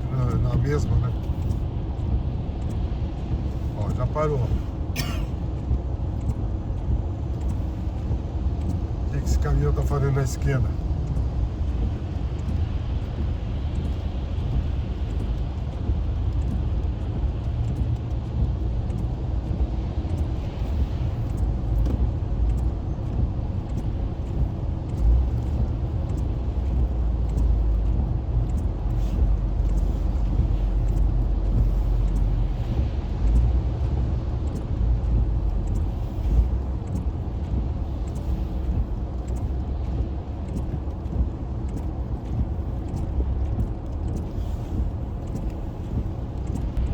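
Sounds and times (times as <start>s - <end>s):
car interior road rumble: 0.0s - 46.9s.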